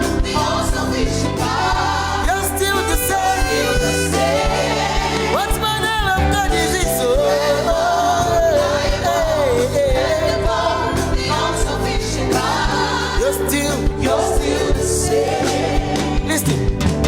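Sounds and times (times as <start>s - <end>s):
backing singers: 0.0s - 16.7s
gospel band: 0.0s - 17.0s.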